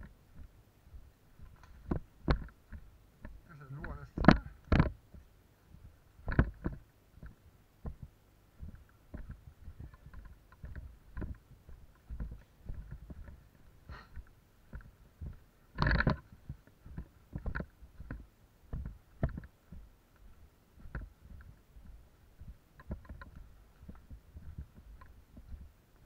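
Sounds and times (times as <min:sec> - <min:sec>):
undergrowth rustling: 0:00.0 - 0:26.0.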